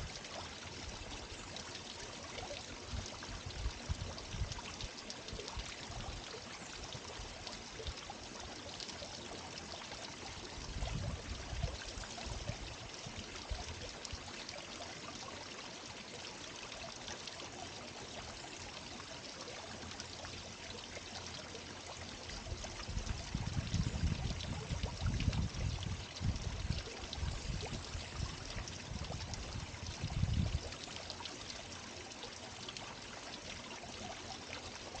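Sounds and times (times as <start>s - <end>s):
water fountain splashing: 0.0s - 35.0s.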